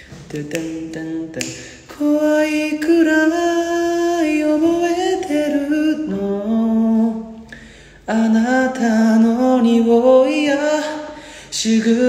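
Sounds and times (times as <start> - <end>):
man singing unaccompanied: 0.0 - 7.4, 8.0 - 12.0.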